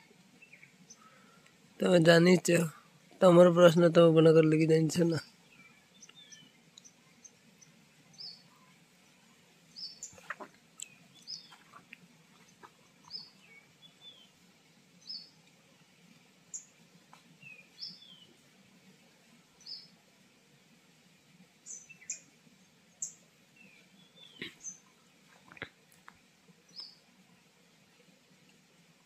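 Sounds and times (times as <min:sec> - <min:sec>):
small birds chirping: 0:00.0 - 0:20.0, 0:21.3 - 0:28.6.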